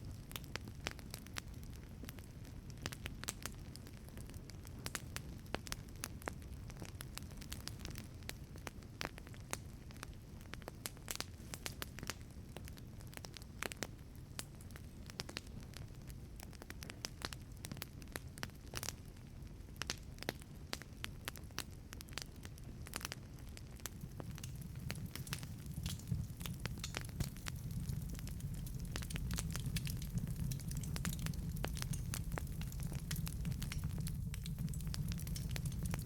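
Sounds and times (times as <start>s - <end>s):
fire low rumble: 0.0s - 36.0s
wood fire crackling: 0.0s - 36.0s.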